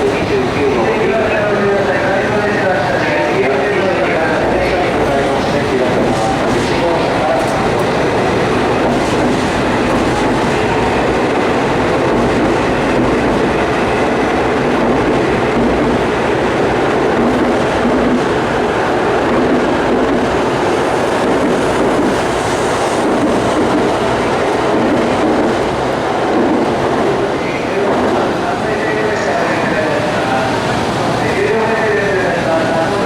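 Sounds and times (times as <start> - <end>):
train running noise: 0.0 - 33.0.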